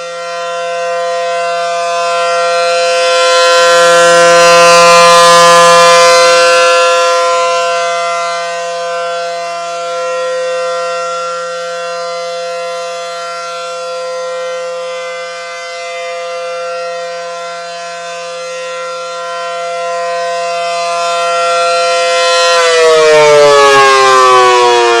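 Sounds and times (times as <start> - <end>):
rotating warning siren: 0.0 - 25.0.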